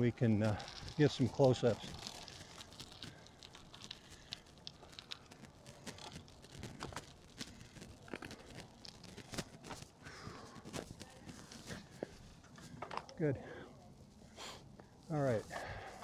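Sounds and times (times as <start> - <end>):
bicycle crunches and clicks: 0.0 - 13.7.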